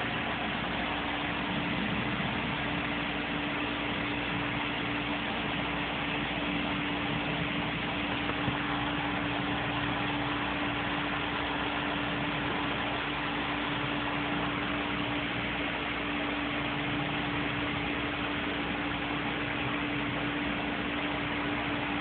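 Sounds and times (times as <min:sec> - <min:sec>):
steady mechanical hum and hiss: 0:00.0 - 0:22.0.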